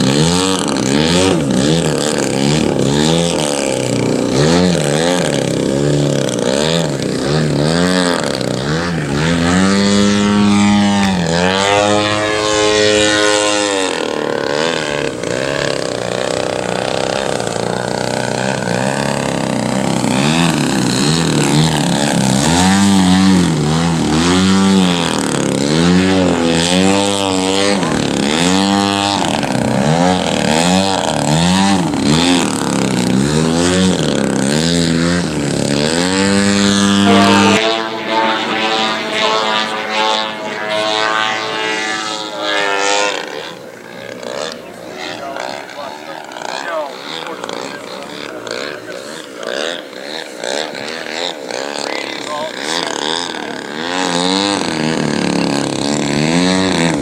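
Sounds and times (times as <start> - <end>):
model plane engine revving: 0.0 - 57.0.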